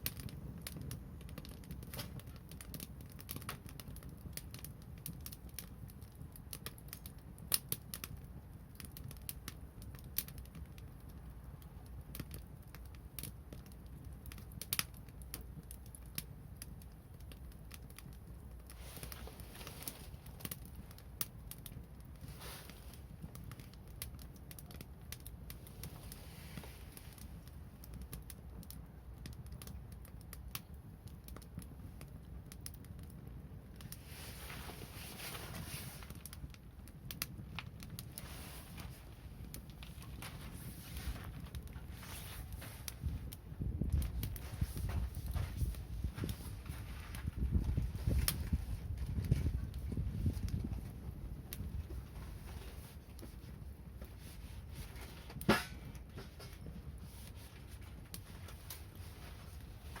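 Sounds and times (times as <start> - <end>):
bonfire crackling and popping: 0.0 - 60.0
low fire rumble: 0.0 - 60.0.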